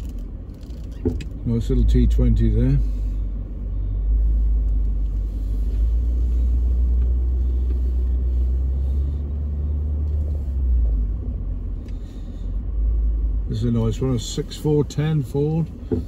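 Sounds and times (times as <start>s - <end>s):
car rumbling from inside cabin: 0.0s - 16.0s.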